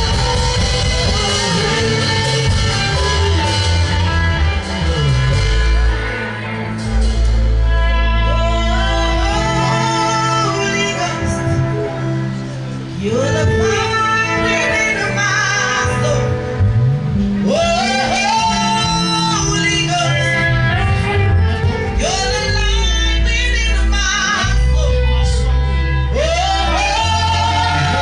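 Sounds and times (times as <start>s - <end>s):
gospel singing: 0.0s - 28.0s
instrumental accompaniment with bass: 0.0s - 28.0s.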